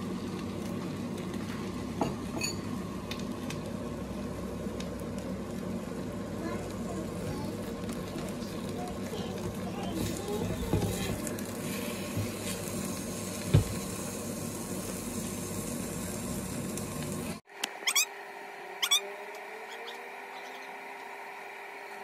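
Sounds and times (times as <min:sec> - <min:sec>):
egg sizzling in a pan: 0:00.0 - 0:19.0.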